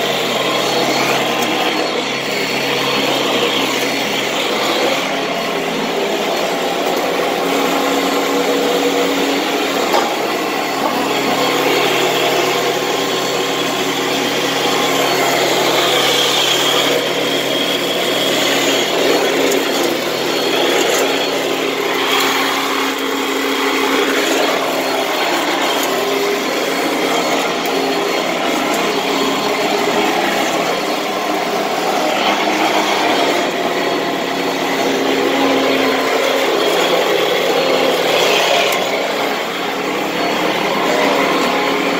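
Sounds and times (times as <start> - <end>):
upright vacuum cleaner on carpet: 0.0 - 41.9.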